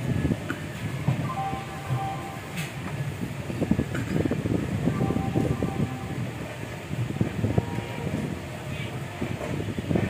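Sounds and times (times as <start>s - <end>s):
train rattling and clattering: 0.0s - 10.0s
train rumbling: 0.0s - 10.0s.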